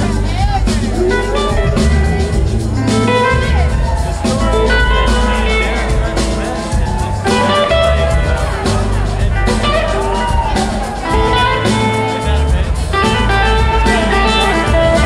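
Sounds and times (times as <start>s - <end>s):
blues-rock band playing: 0.0s - 15.0s
electric guitar lead: 0.0s - 15.0s.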